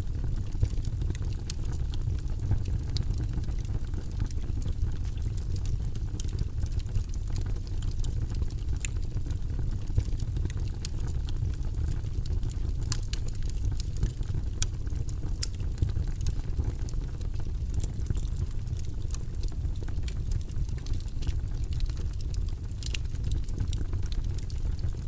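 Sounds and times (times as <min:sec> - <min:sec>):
fire flames rumbling: 0:00.0 - 0:25.0
wood fire crackling and popping: 0:00.0 - 0:25.0.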